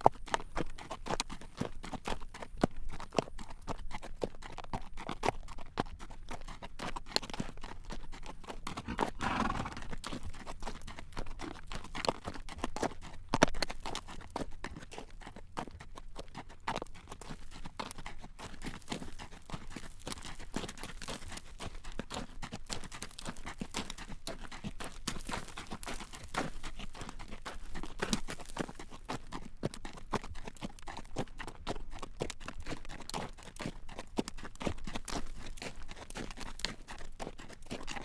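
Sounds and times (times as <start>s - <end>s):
horse hooves clip-clopping on road: 0.0s - 38.0s.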